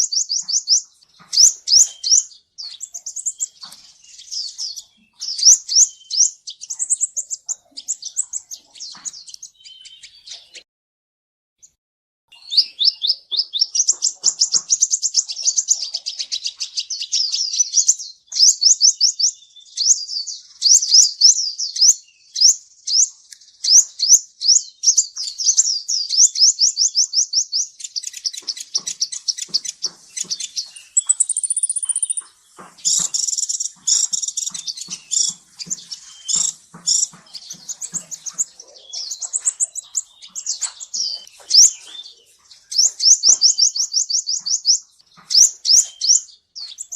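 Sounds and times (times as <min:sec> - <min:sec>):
bird chirps and clicks: 0:00.0 - 0:10.6, 0:11.6 - 0:46.9
sunbird song: 0:00.0 - 0:10.6, 0:11.6 - 0:46.9.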